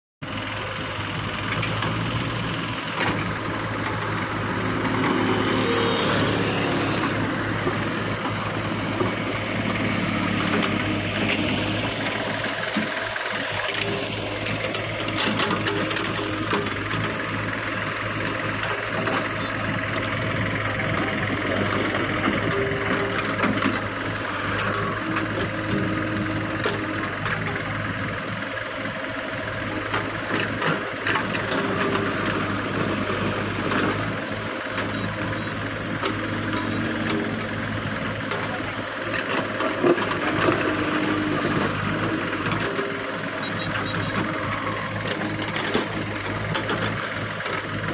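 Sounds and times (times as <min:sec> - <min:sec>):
diesel engine running: 0:00.2 - 0:47.9.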